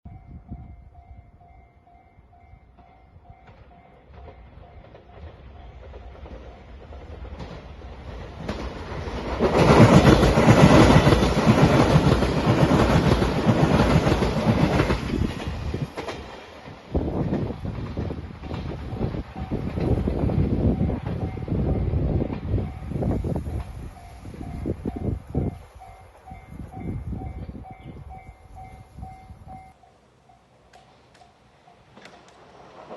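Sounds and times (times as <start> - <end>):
train wheels clattering on rails: 2.6 - 29.8, 30.7 - 32.9.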